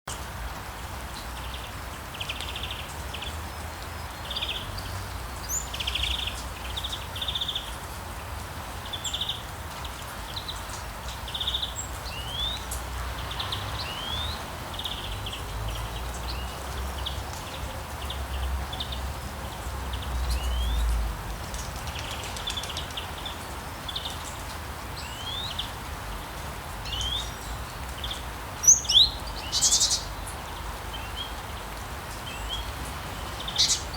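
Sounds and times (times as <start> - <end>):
steady rain hiss: 0.1 - 33.9
small birds chirping: 1.2 - 33.9.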